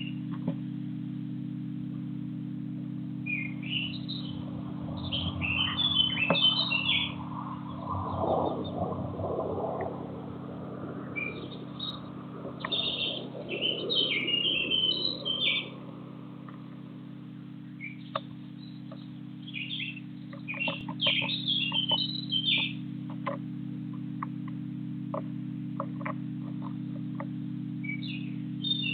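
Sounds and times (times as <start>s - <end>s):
small birds chirping: 0.0s - 0.8s, 3.2s - 28.9s
steady low hum: 0.0s - 28.9s.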